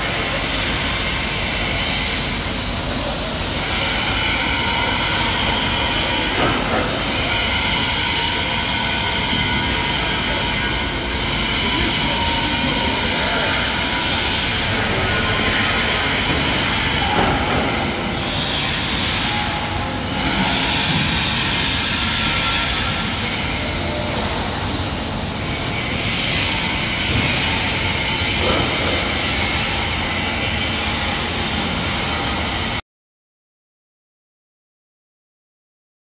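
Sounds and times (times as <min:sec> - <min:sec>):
factory hall rushing drone: 0:00.0 - 0:32.8.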